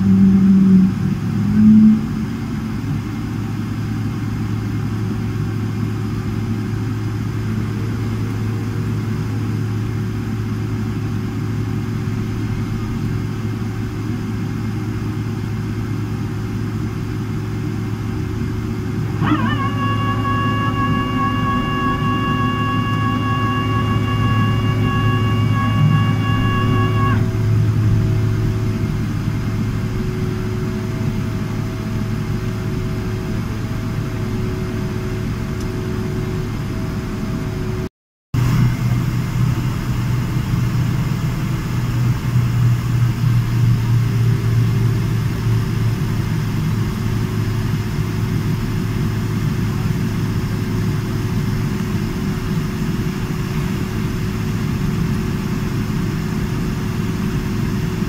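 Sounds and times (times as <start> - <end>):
jet engines humming in cabin: 0.0 - 58.0.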